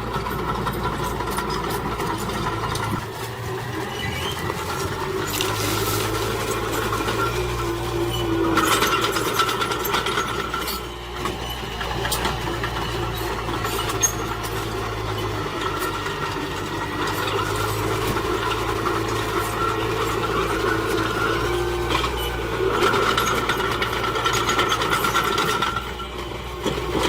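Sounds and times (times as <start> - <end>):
heavy machinery diesel engine: 0.0 - 27.0.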